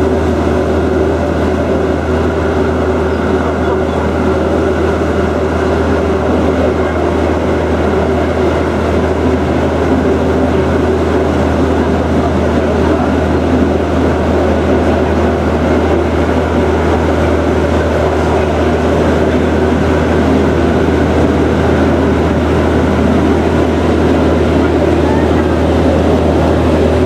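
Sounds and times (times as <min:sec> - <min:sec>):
ferry engine drone: 0:00.0 - 0:27.0
steady hum: 0:00.0 - 0:27.0.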